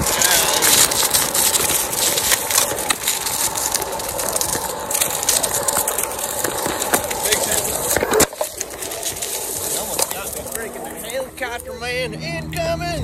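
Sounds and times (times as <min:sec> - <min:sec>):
tyre crunching over dry leaves: 0:00.0 - 0:13.0.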